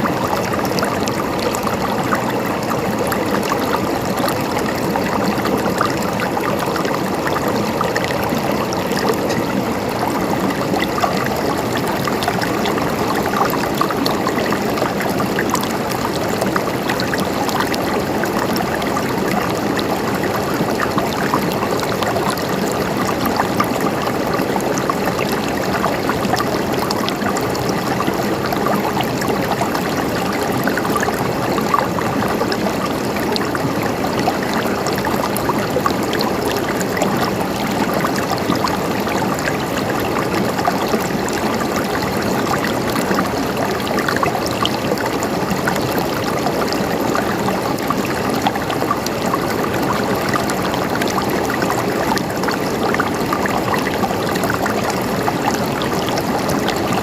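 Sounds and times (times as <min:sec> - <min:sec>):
river water flowing over stones: 0:00.0 - 0:57.0.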